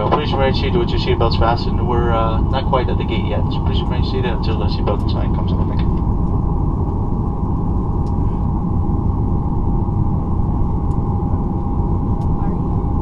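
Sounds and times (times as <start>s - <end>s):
jet engines idling rumble: 0.0s - 13.0s
mid-pitched cabin hum: 0.0s - 13.0s.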